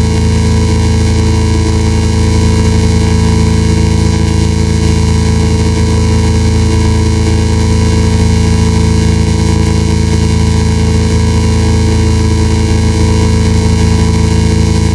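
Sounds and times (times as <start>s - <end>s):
low dense drone: 0.0s - 14.9s.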